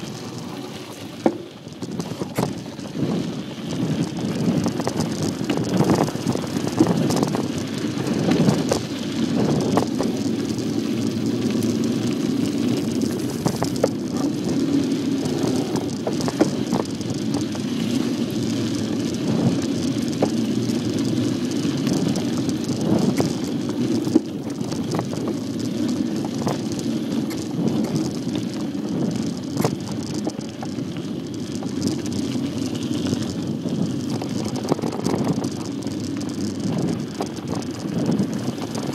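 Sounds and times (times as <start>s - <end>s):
bicycle tyres rumbling on dirt: 0.0s - 38.9s
bike rattling over bumps: 0.0s - 38.9s.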